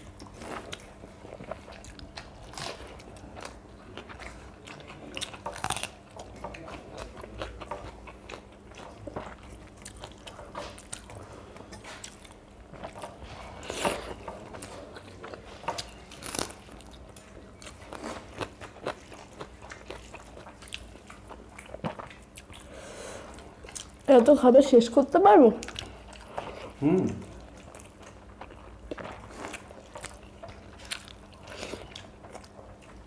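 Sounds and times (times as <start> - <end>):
chewing and crunching: 0.0 - 33.0.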